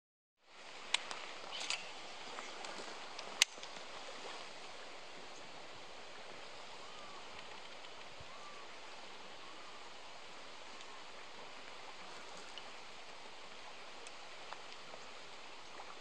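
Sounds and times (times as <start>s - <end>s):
running water hiss: 0.4s - 16.0s.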